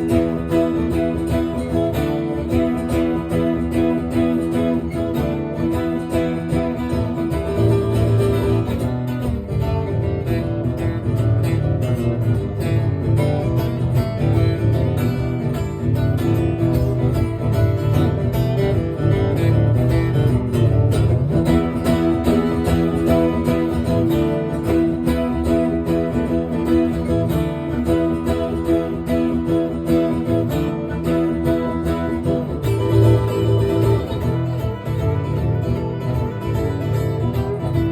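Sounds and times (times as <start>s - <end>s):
acoustic guitar playing: 0.0s - 37.9s.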